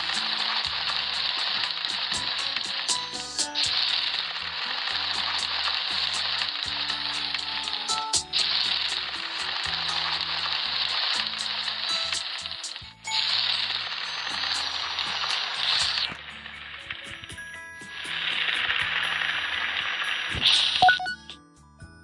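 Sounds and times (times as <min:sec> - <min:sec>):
grilling sizzle: 0:00.0 - 0:17.2, 0:18.0 - 0:20.8.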